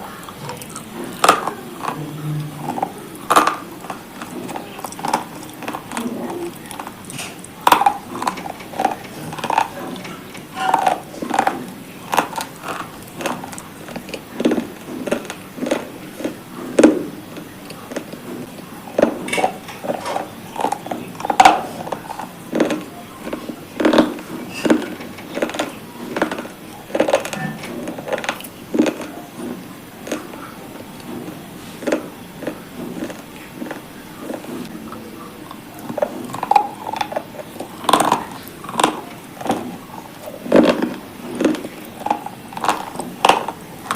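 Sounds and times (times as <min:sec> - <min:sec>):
person crunching hard pieces: 0:00.0 - 0:43.9.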